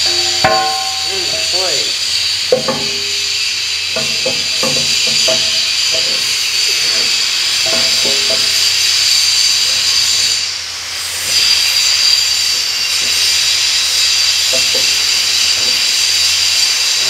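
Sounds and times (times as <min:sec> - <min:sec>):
welding arc sizzling: 0:00.0 - 0:17.0.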